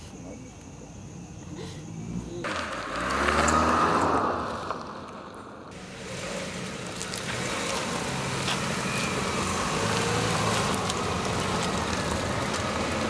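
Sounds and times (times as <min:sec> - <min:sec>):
tyres on loose gravel road: 0:01.9 - 0:13.0
car engine running low: 0:02.1 - 0:13.0.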